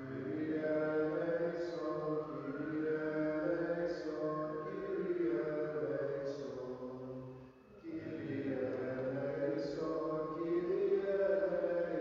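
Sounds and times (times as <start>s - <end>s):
man chanting a hymn: 0.0s - 12.0s.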